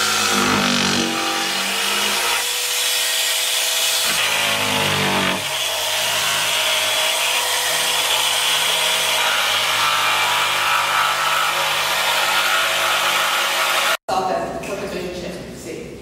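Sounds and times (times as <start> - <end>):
jigsaw cutting wood: 0.0 - 14.0.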